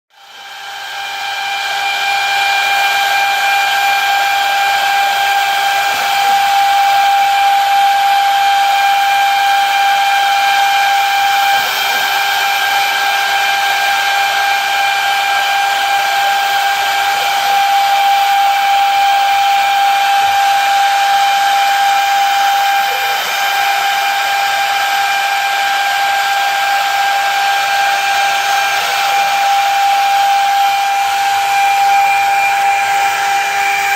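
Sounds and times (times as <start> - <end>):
milling machine high whine: 0.1 - 33.9.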